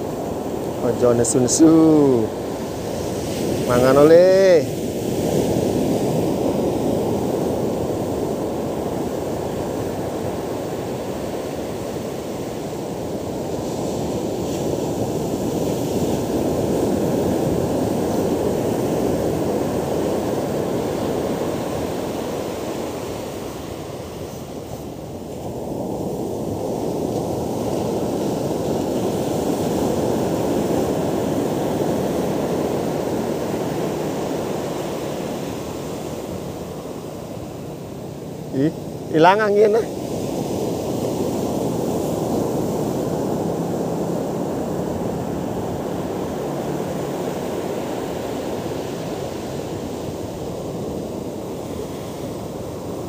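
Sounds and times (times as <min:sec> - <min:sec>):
surf breaking on beach: 0:00.0 - 0:53.0.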